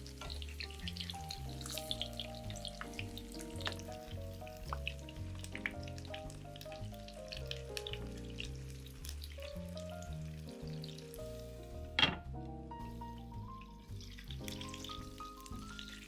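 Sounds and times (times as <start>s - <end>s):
food frying in oil: 0.0s - 12.0s, 12.8s - 16.0s
background music with bass line: 0.0s - 16.0s.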